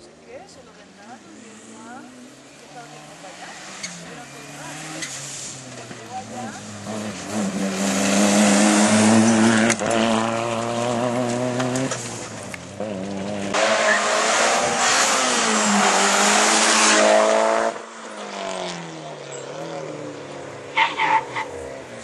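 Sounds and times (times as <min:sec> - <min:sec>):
rally cars passing at full throttle: 0:00.3 - 0:22.0.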